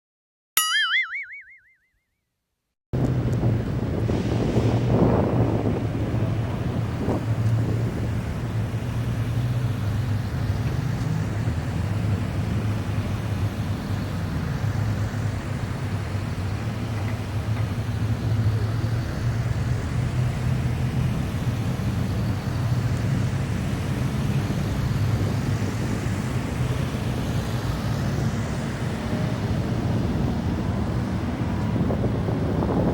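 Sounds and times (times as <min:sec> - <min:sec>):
outdoor street noise: 0:03.0 - 0:32.9.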